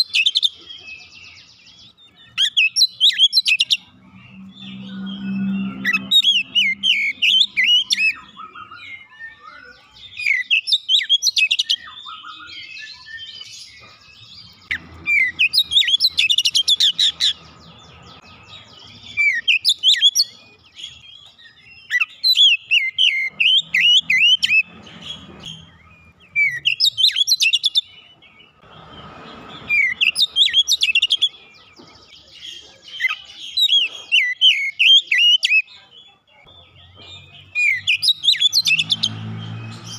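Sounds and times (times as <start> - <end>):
bird singing whistles and chirps: 0.0 - 35.8, 36.4 - 39.9.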